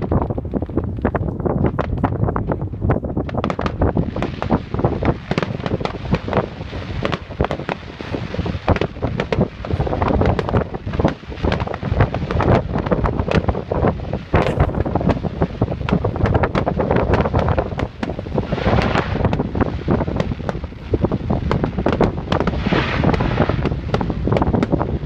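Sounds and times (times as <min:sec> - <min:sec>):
firework bangs: 0:00.0 - 0:25.0
wind rumbling on microphone: 0:00.0 - 0:25.0.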